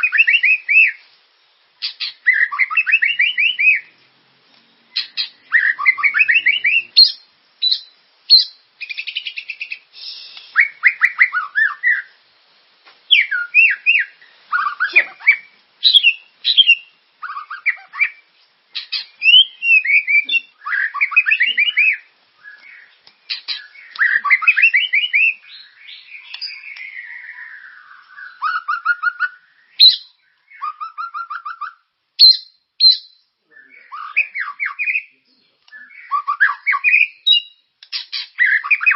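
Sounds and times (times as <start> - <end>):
songbird chirps trills and whistles: 0.0 - 12.2, 12.8 - 38.9.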